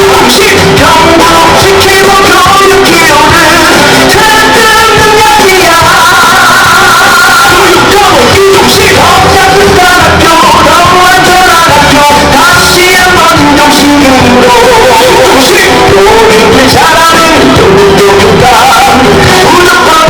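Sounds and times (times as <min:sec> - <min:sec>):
pop song with singing: 0:00.0 - 0:20.0.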